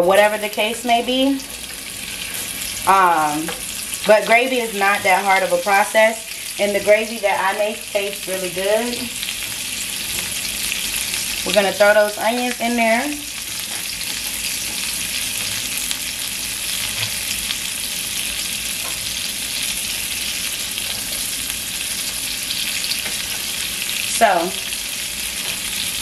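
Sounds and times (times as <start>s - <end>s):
onions sizzling in grease: 0.0s - 26.0s.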